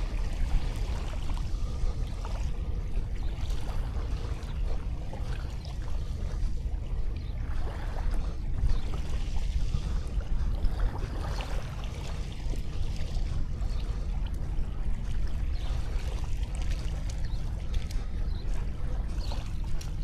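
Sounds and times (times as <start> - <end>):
waves washing onto beach: 0.0 - 20.0.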